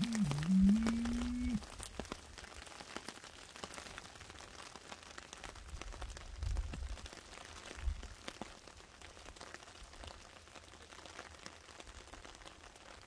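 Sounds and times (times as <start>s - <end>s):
rain drops on leaf litter: 0.0s - 13.0s.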